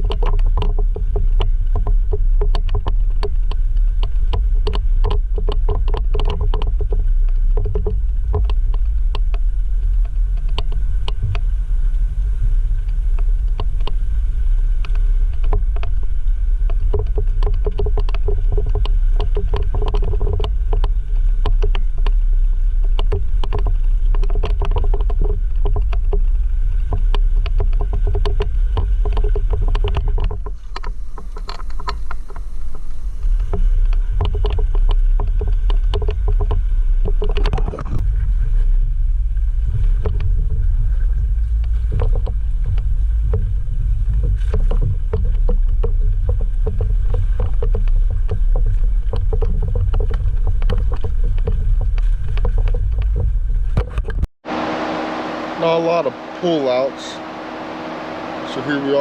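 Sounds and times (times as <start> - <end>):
engine and tyres rumbling: 0.0 - 59.0.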